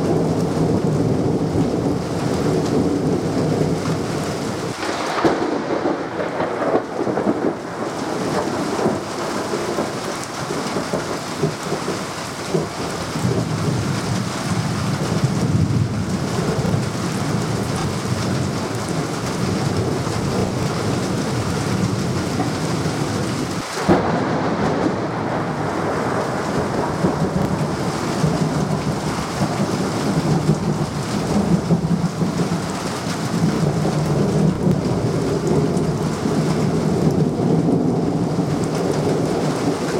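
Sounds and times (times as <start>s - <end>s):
rolling thunder: 0.0s - 39.9s
steady rain: 0.0s - 39.9s.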